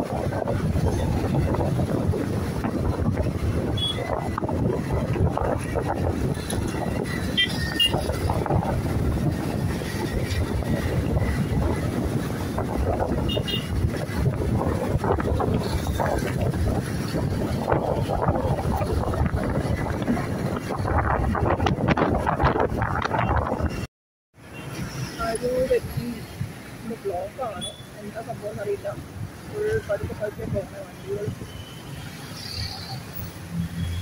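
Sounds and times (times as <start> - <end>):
wind buffeting microphone: 0.0 - 23.9, 28.1 - 31.6
road traffic drone: 0.0 - 34.0.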